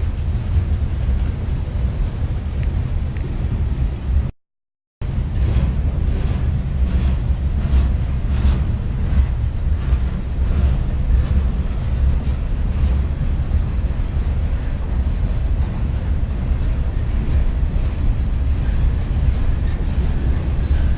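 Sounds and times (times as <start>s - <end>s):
freight train rumbling past: 0.0s - 4.3s, 5.0s - 20.9s
wind buffeting microphone: 0.0s - 4.3s, 5.0s - 20.9s.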